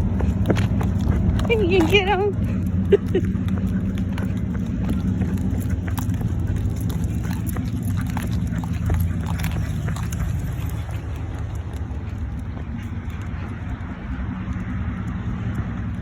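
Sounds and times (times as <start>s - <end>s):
dog footfalls running: 0.0s - 16.0s
truck engine driving off: 0.0s - 16.0s.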